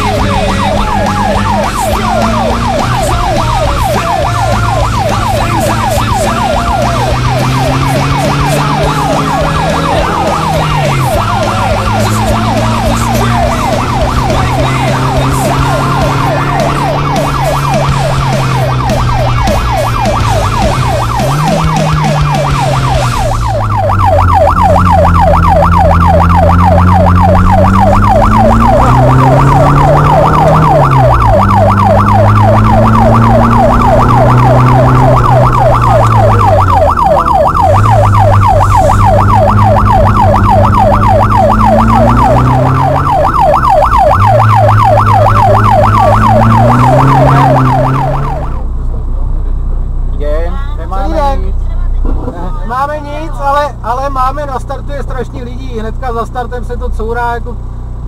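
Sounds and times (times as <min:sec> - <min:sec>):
fast warbling whine: 0:00.0 - 0:48.9
rally car engine revving: 0:00.0 - 0:57.8.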